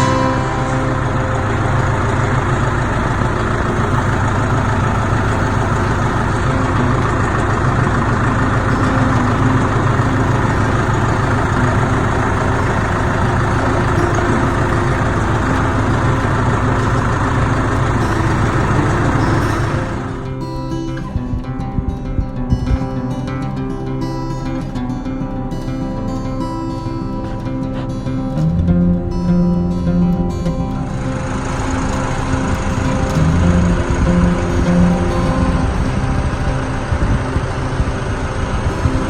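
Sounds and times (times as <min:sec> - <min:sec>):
heavy diesel engine running: 0:00.0 - 0:22.4, 0:23.5 - 0:39.0.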